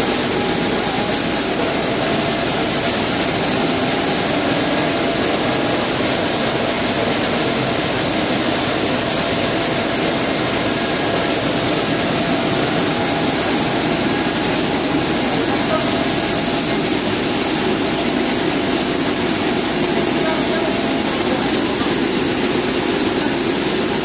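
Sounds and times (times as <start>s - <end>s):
loud machine noise: 0.0s - 24.0s.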